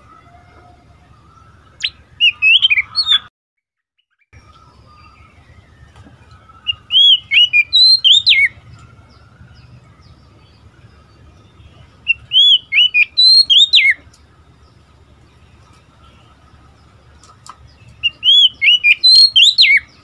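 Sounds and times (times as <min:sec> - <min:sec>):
bird singing whistled notes: 0:00.0 - 0:03.3, 0:04.0 - 0:16.6, 0:17.7 - 0:20.0.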